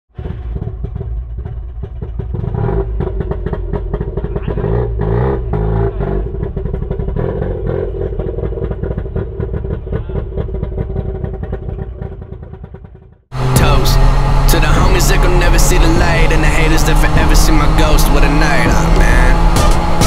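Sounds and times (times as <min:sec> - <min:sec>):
vehicle engine revving: 0:00.1 - 0:20.0.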